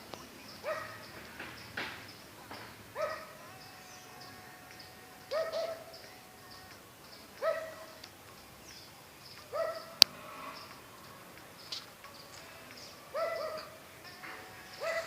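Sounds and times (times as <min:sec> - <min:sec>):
faint high chirping: 0:00.0 - 0:15.0.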